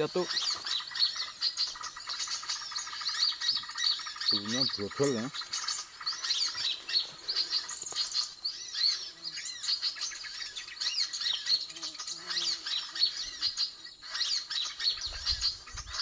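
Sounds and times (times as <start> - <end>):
many small birds chirping: 0.0 - 16.0.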